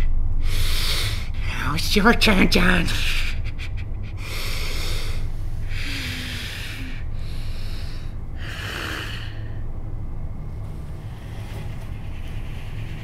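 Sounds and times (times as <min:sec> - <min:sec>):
low steady hum: 0:00.0 - 0:13.0
man breathing hard through nose: 0:00.4 - 0:01.5, 0:03.0 - 0:13.0.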